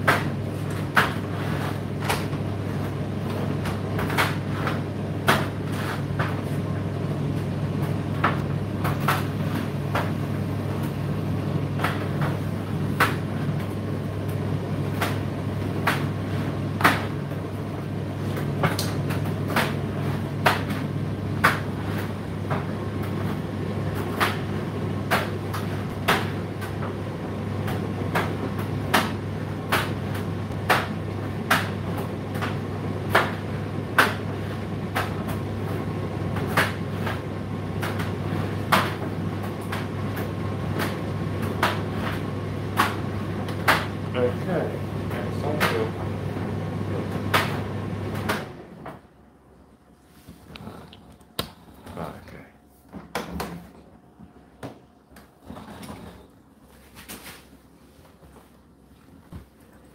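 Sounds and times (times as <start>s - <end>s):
tumble dryer motor hum: 0.0s - 59.9s.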